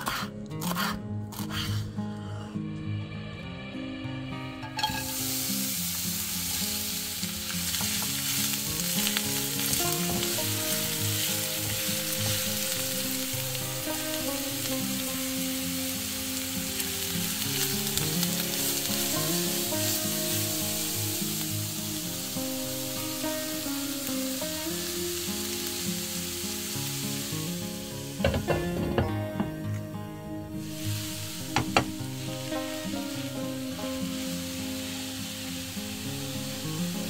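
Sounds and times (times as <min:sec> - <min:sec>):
onion sizzling in frying pan: 0:04.6 - 0:37.0.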